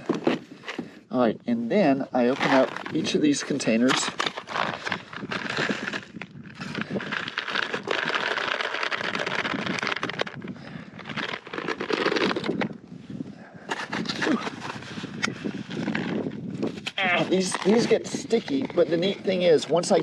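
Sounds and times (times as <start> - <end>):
plastic food containers handled: 0.0 - 1.0, 2.2 - 12.8, 13.7 - 19.4.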